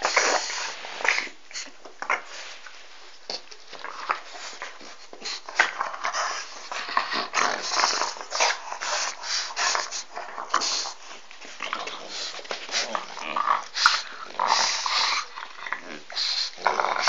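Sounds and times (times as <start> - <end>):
dogs making breathy sounds: 0.0 - 17.0.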